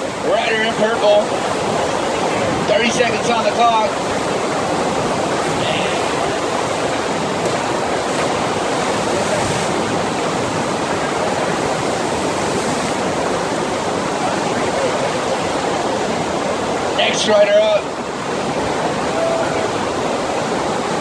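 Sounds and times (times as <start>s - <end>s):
rushing water roar: 0.0s - 21.0s.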